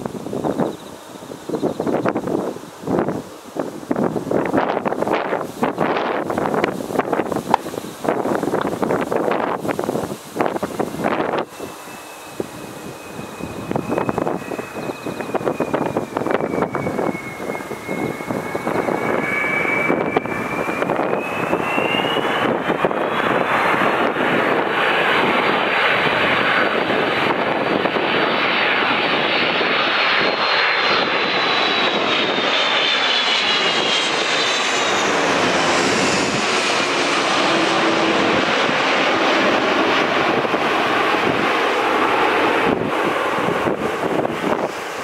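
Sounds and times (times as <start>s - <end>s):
high engine whine: 0.0s - 45.0s
jet engines roaring overhead: 0.0s - 45.0s.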